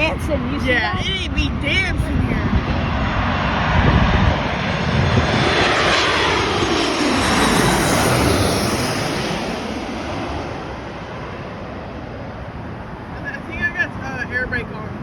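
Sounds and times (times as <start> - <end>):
jet airliner passing low: 0.0 - 15.0.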